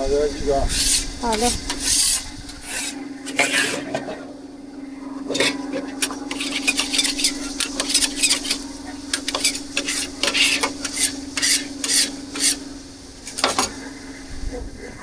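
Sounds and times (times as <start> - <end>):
steady low hum: 0.0 - 15.0
metal utensil scraping a pan: 0.7 - 4.2, 5.2 - 13.9.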